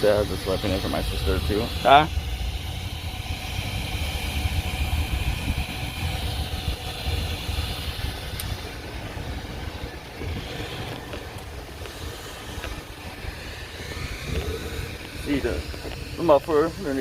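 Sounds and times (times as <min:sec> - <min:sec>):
motor running with hiss: 0:00.0 - 0:17.0.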